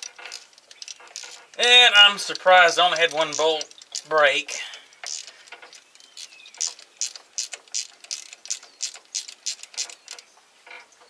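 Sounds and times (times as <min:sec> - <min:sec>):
ratchet wrench clicking: 0:00.0 - 0:10.2.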